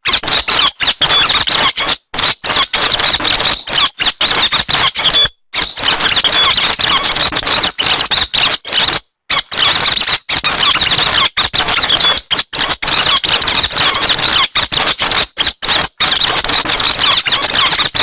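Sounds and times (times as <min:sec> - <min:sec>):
bird high chirps: 0:00.0 - 0:18.0.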